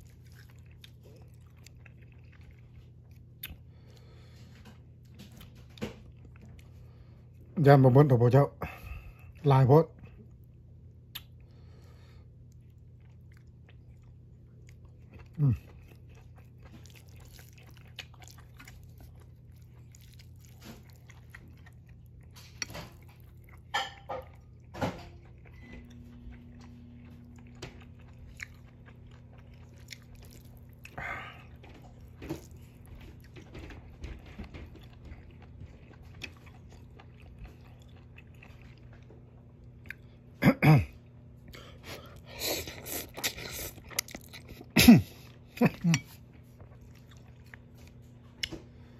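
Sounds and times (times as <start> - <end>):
close chewing and mouth noises: 0.0 - 40.4, 41.0 - 48.9
steady low hum: 0.0 - 48.9.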